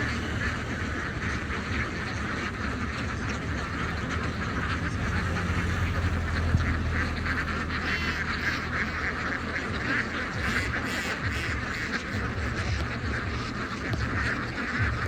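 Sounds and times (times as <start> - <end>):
flock of ducks quacking: 0.0 - 15.0
low rumble: 0.0 - 15.0.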